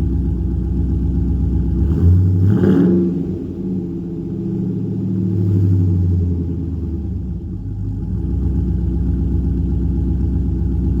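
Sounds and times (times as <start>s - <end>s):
vee-eight engine lumpy idle: 0.0s - 2.4s, 3.2s - 11.0s.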